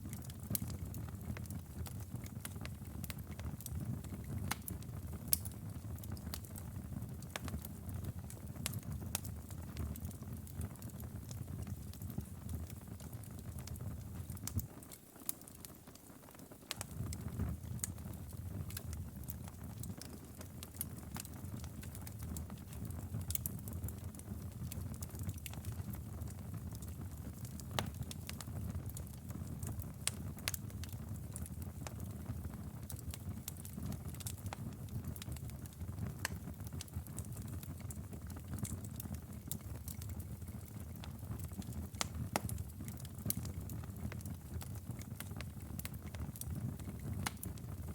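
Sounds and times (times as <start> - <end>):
low rumble of flame: 0.0 - 15.4, 16.7 - 47.9
fire crackling and popping: 0.0 - 47.9.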